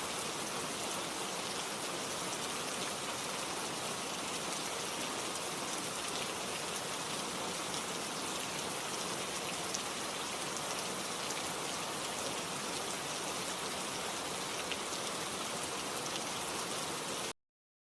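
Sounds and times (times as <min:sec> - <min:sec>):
rain falling: 0:00.0 - 0:17.3.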